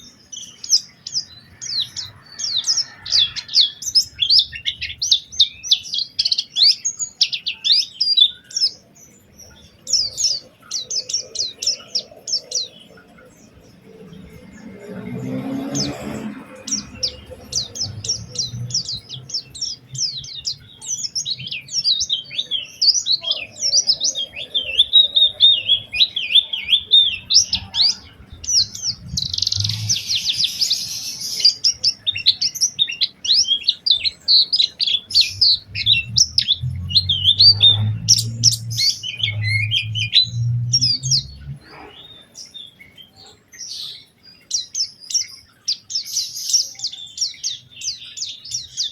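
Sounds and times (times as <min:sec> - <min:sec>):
bird singing twittering song: 0:00.0 - 0:48.9.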